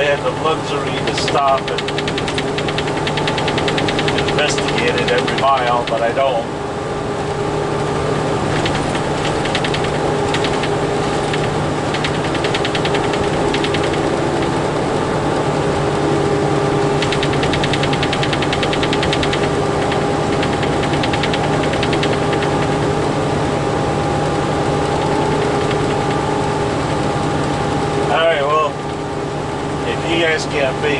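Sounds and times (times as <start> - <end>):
rapid rattling in cab: 0.0 - 6.5, 7.4 - 30.9
truck engine and road noise: 0.0 - 30.9.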